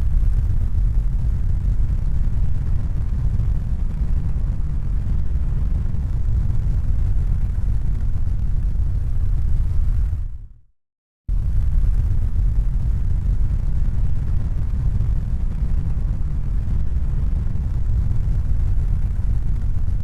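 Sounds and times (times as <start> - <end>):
low rumbling noise: 0.0 - 10.6, 11.3 - 20.0.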